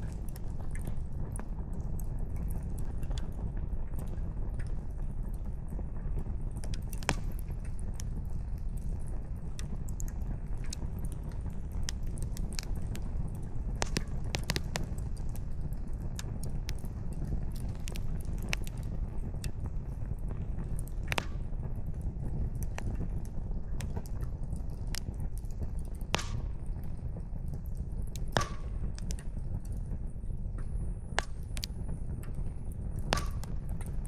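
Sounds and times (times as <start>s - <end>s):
steady low rumble: 0.0s - 34.0s
wood fire crackling and popping: 0.0s - 34.0s.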